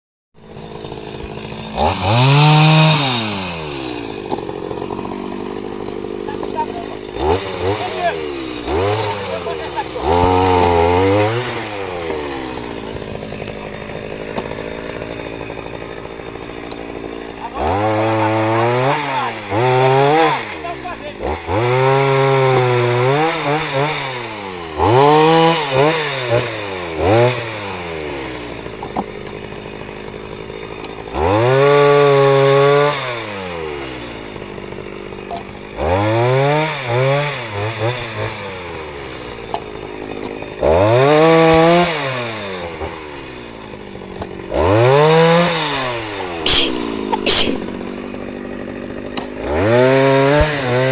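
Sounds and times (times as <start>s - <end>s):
chainsaw revving: 0.4s - 50.9s.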